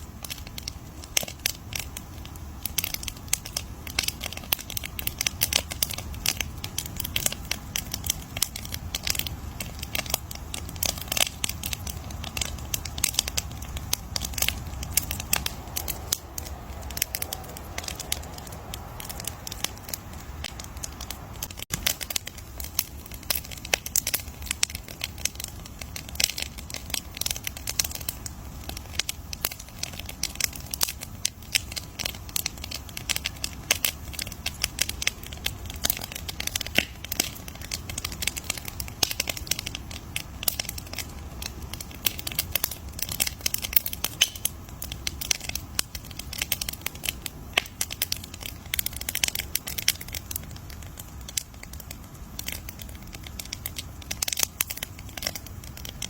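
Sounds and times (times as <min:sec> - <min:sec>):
burning wood popping and snapping: 0:00.0 - 0:56.0
low rumble of flames: 0:00.0 - 0:56.0.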